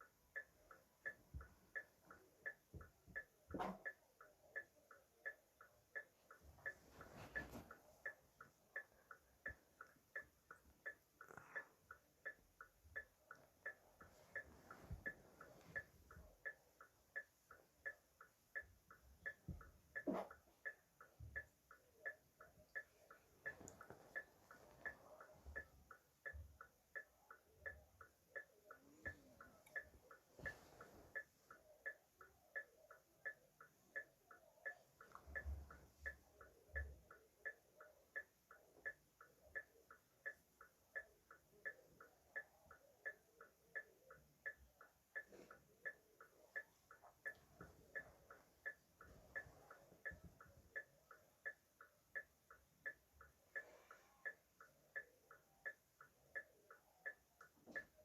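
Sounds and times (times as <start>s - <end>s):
flasher relay ticking: 0.0s - 58.0s.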